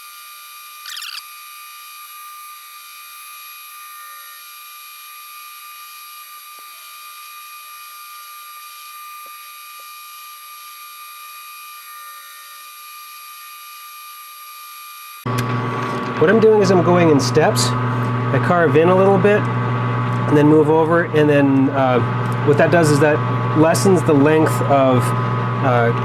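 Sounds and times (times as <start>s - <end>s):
metal lathe whine: 0.0s - 26.0s.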